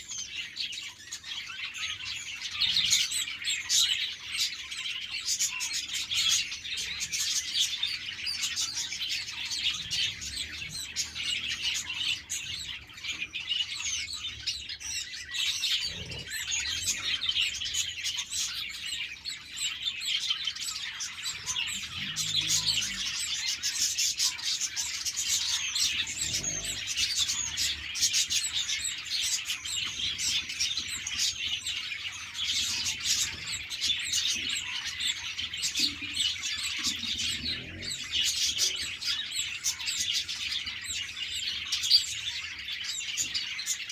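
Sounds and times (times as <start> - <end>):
flock of budgerigars chirping: 0.0 - 43.9.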